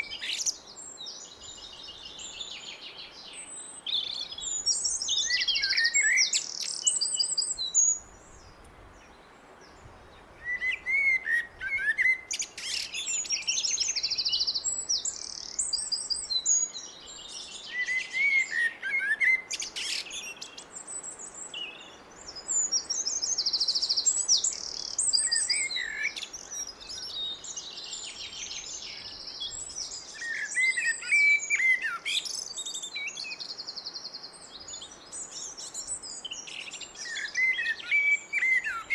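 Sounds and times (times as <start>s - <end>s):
blackbird singing: 0.0s - 8.0s, 10.4s - 38.9s.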